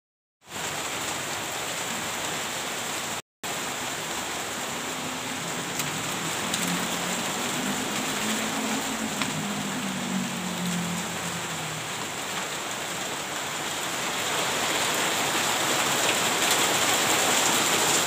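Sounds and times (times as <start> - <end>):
steady rain falling: 0.4 - 18.0.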